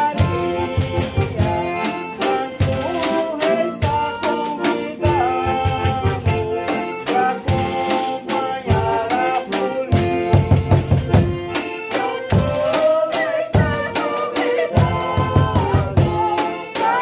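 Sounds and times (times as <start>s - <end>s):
accordion: 0.0s - 17.0s
drum and tambourine beating: 0.0s - 17.0s
men singing: 0.0s - 17.0s
viola playing: 0.0s - 17.0s.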